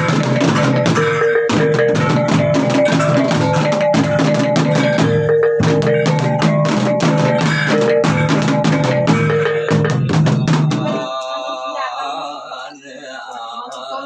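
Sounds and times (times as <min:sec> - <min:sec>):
drums beaten in fast rhythm: 0:00.0 - 0:11.8
steady pitched ringing tones: 0:00.0 - 0:11.9.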